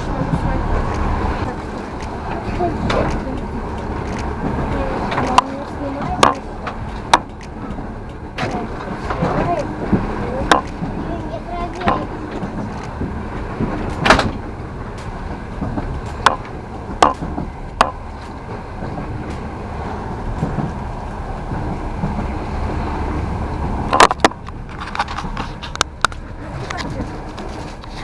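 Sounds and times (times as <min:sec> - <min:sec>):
train clicks and knocks: 0:00.0 - 0:28.0
train rumbling inside carriage: 0:00.0 - 0:28.0.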